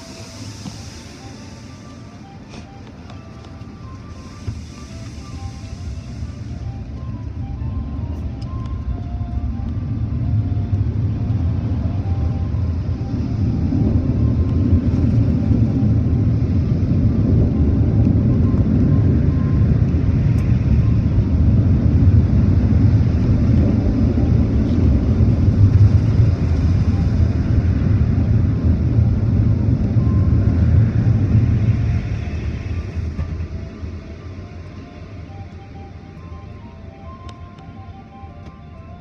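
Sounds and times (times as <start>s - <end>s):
muffled car wash rumble: 0.0s - 39.0s.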